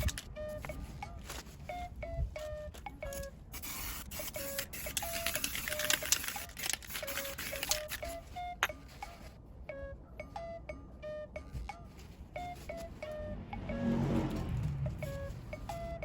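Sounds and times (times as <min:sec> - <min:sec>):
light background music: 0:00.0 - 0:16.0.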